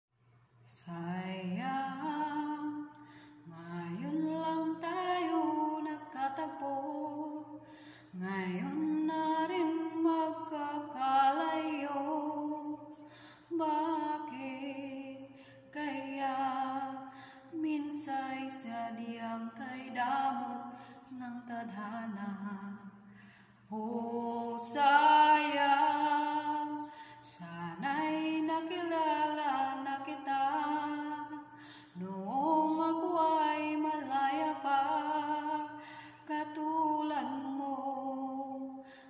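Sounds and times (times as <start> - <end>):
woman singing long held notes: 0.7 - 22.9, 23.7 - 39.0.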